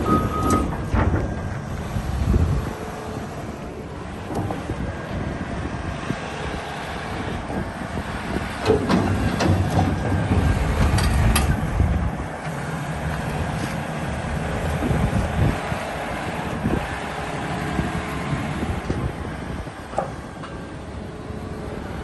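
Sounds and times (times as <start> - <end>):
excavator engine rumbling: 0.0 - 22.0.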